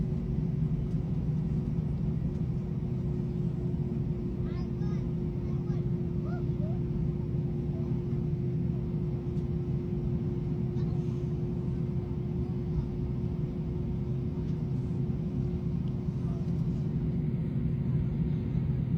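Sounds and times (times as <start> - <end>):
aircraft cabin drone: 0.0 - 18.9
constant hum tone: 0.0 - 18.9
faint passenger voices: 0.1 - 18.9.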